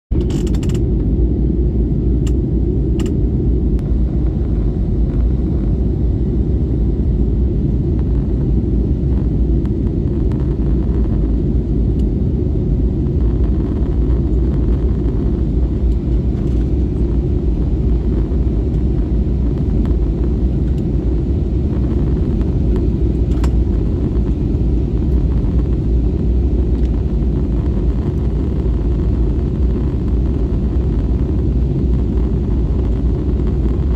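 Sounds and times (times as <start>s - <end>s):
jet airliner rumble: 0.1s - 33.9s.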